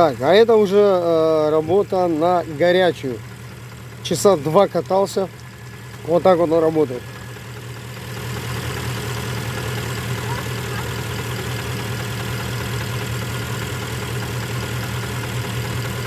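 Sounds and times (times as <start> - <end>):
car engine idling with knock: 0.0 - 16.0.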